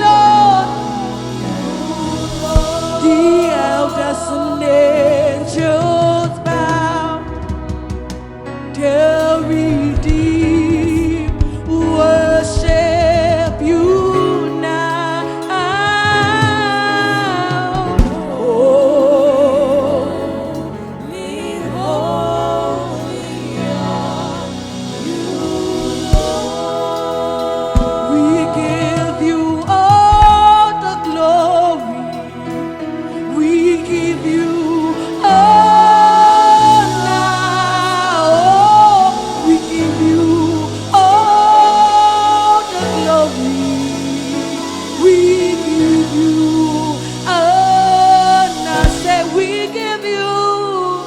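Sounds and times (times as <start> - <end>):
gospel singing with band: 0.0 - 51.0
keyboard chords: 0.0 - 51.0.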